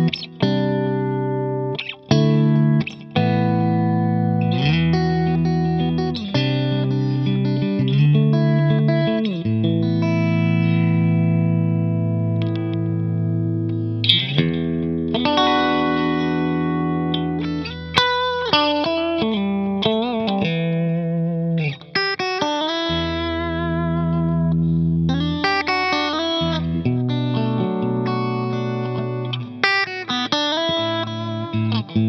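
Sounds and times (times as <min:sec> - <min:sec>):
electric guitar chords and notes: 0:00.0 - 0:32.0.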